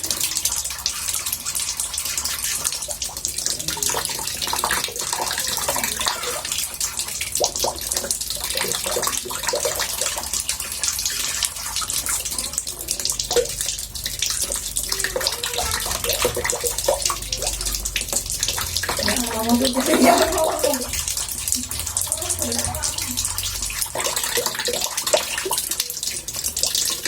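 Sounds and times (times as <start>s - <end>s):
water murmuring in bathtub: 0.0s - 27.0s.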